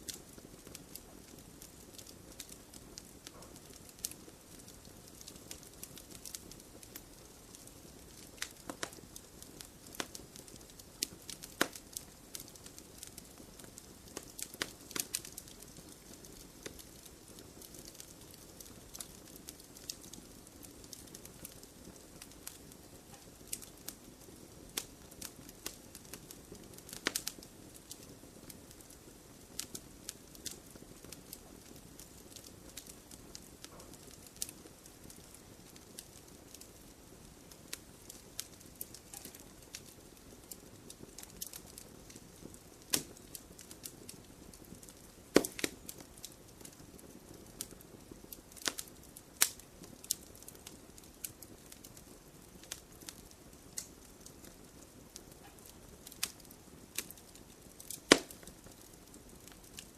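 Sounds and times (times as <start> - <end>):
campfire crackling and popping: 0.0 - 59.9
fire hissing: 0.0 - 59.9.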